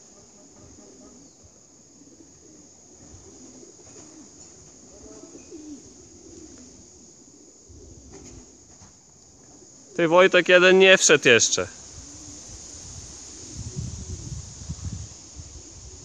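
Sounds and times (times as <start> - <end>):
pigeons cooing: 0.0 - 10.1, 11.8 - 16.0.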